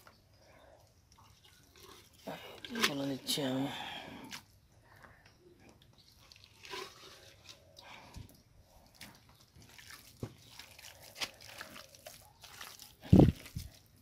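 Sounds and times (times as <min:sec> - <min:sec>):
wet squishing of kneaded rice: 0:00.0 - 0:14.0.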